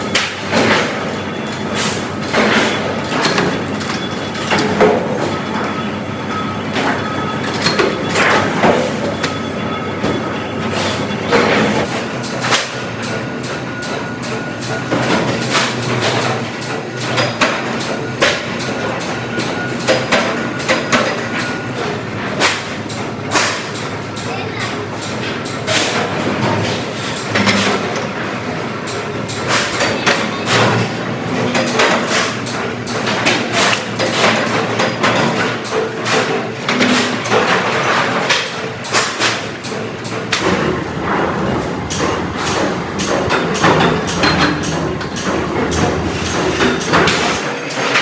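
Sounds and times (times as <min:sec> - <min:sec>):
factory knocking and clatter: 0:00.0 - 0:48.0.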